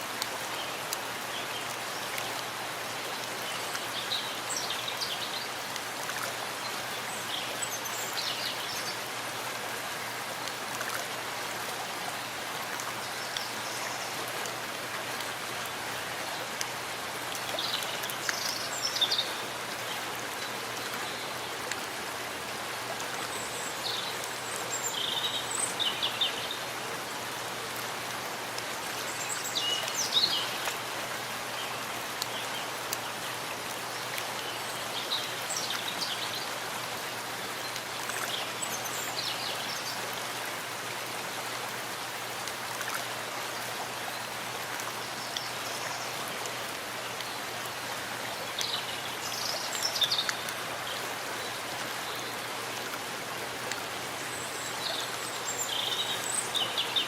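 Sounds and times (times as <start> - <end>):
steady rain in forest: 0.0 - 57.0.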